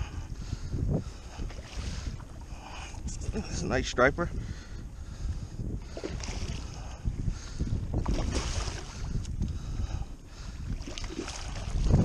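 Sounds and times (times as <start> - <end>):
water lapping at kayak hull: 0.0 - 12.0
wind buffeting microphone: 0.0 - 12.0.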